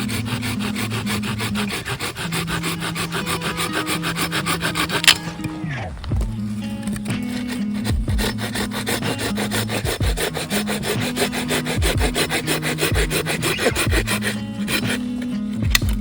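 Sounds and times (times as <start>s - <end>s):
hand saw cutting wood: 0.0s - 16.0s.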